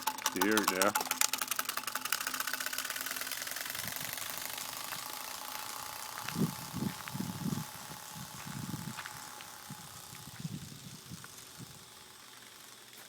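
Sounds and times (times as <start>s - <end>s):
card rattling against bicycle spokes: 0.0s - 13.0s.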